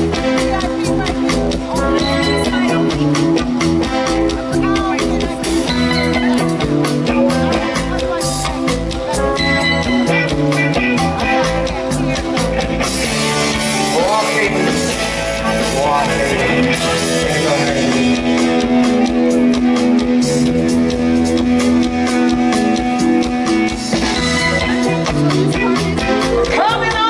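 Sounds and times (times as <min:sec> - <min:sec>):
live band music: 0:00.0 - 0:27.0.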